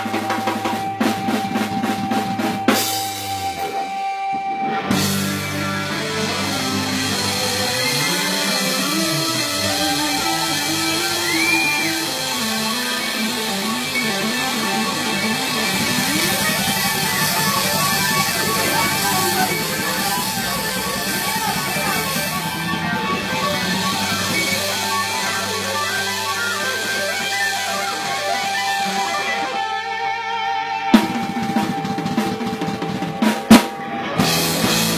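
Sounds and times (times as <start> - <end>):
live band playing: 0.0 - 34.9.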